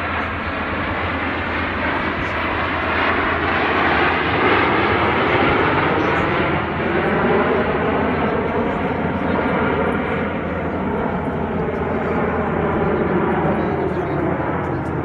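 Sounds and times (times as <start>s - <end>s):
airplane flying past: 0.0s - 15.0s.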